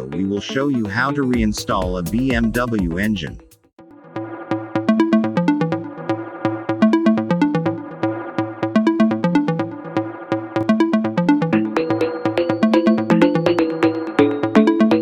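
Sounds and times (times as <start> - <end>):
electronic music with synth bass: 0.0 - 15.0.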